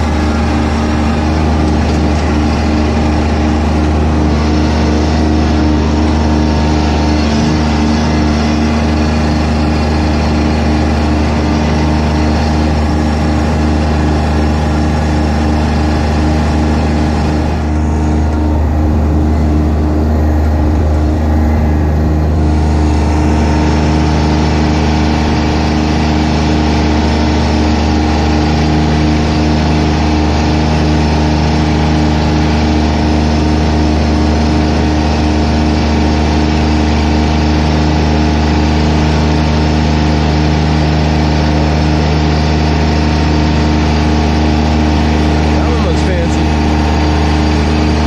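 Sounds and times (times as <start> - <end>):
lawn mower engine droning: 0.0 - 48.0.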